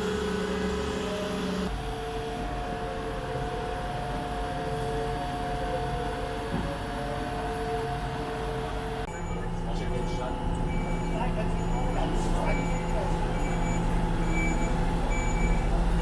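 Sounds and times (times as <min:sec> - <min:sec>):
concrete pump machine hum: 0:00.0 - 0:16.0.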